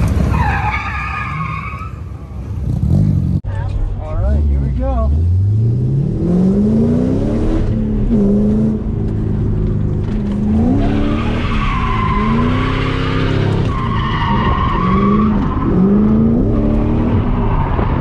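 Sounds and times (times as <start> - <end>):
car engine revving: 2.6 - 18.0.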